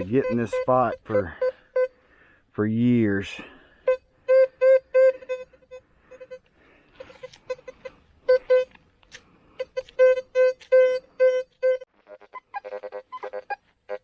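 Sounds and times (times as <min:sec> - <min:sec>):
metal detector buzzy beeps: 0:00.0 - 0:02.0, 0:03.4 - 0:08.8, 0:09.5 - 0:14.0.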